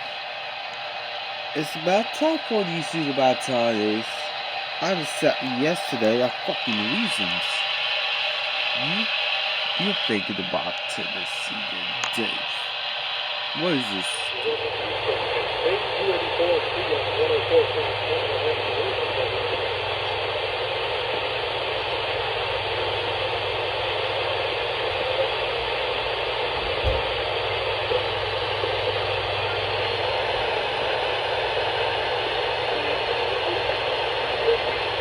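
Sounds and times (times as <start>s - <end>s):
faint hum: 0.0s - 35.0s
radio static hiss: 0.0s - 35.0s.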